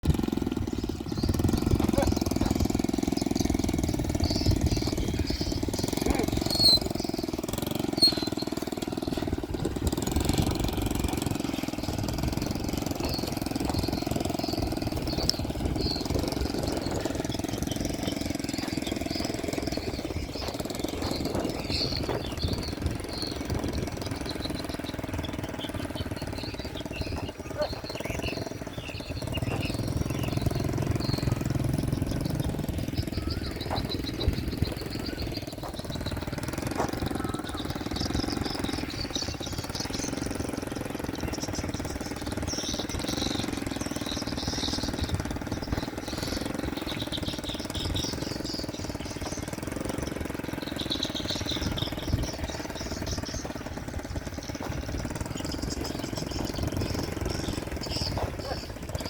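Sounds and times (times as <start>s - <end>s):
motorbike engine running: 0.0s - 59.0s
high chirping: 0.2s - 59.0s.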